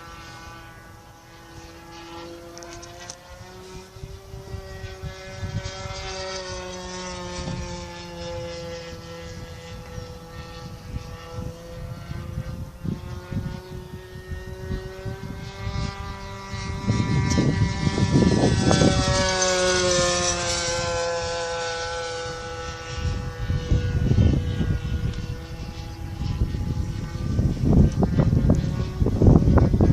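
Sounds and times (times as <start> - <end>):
model airplane engine buzzing: 0.0 - 29.9
wind rumbling on microphone: 0.0 - 29.9.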